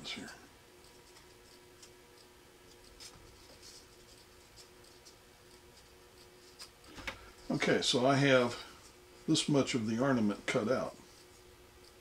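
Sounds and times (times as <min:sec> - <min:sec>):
faint wood scratching: 0:00.0 - 0:09.7, 0:10.4 - 0:12.0
faint steady hum: 0:00.0 - 0:12.0.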